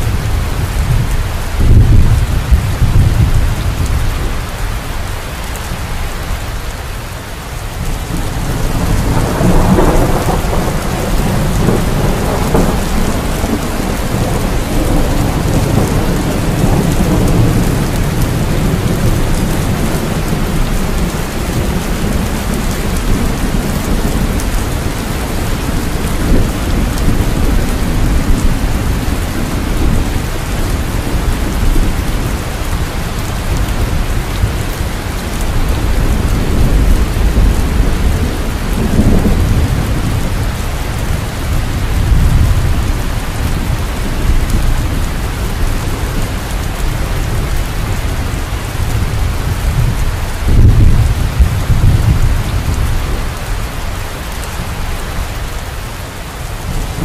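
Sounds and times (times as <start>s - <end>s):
low rolling thunder: 0.0s - 4.6s, 7.7s - 55.6s, 56.2s - 57.0s
steady rain: 0.0s - 57.0s.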